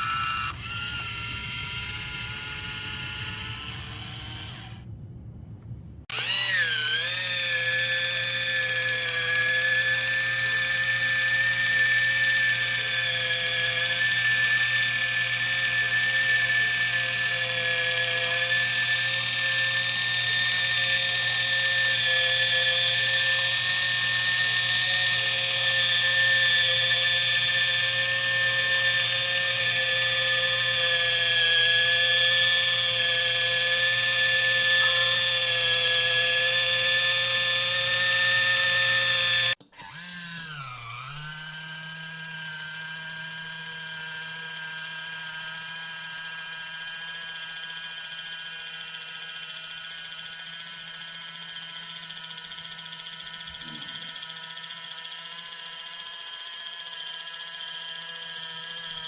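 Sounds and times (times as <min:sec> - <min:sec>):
can opener motor whirring: 0:00.0 - 0:04.9, 0:06.1 - 0:59.0.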